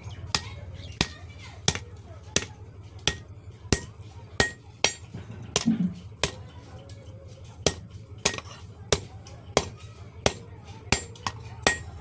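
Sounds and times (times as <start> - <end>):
hammer striking iron on anvil: 0.3 - 6.4, 7.6 - 12.0.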